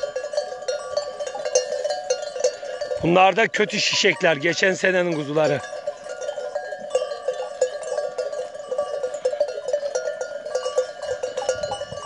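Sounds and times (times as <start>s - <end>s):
sheep and goat bells clanking: 0.0s - 12.0s.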